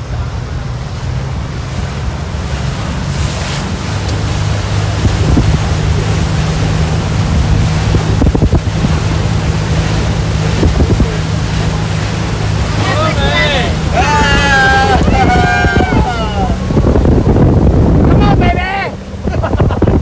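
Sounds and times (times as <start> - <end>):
speedboat engine running: 0.0 - 20.0
water rushing past hull: 0.0 - 20.0
wind on microphone: 0.0 - 20.0.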